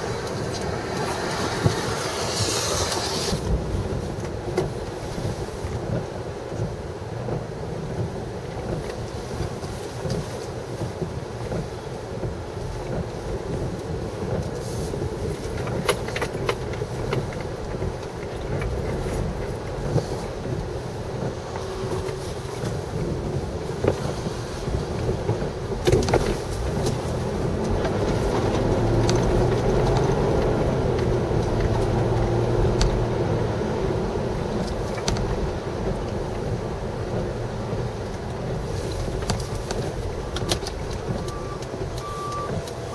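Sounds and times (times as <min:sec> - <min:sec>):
low vehicle rumble: 0:00.0 - 0:42.9.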